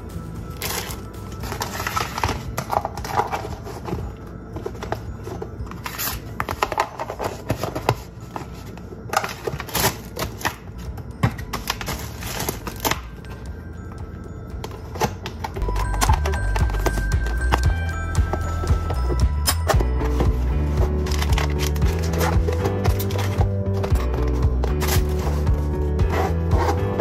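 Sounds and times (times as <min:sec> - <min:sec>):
background music: 0:00.0 - 0:27.0.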